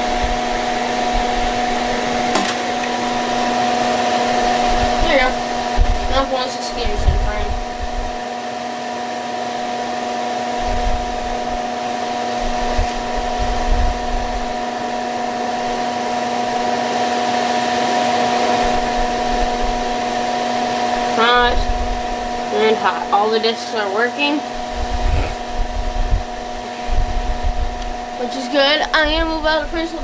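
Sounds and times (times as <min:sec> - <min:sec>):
electric heater fan whirring: 0:00.0 - 0:30.0
motor hum: 0:00.0 - 0:30.0.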